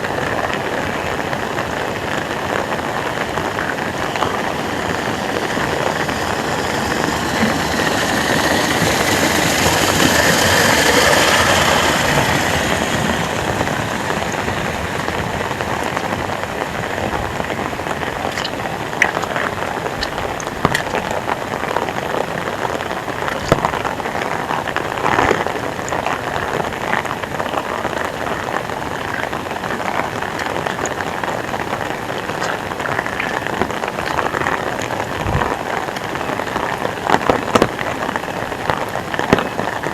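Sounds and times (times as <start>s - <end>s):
heavy rain pouring: 0.0s - 39.9s
sharp drips and splats: 0.0s - 39.9s.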